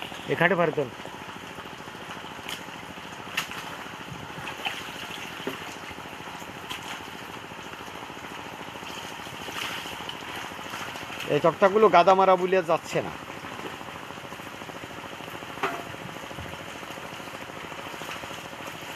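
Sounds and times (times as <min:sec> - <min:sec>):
water trickling and dripping: 0:00.0 - 0:18.9.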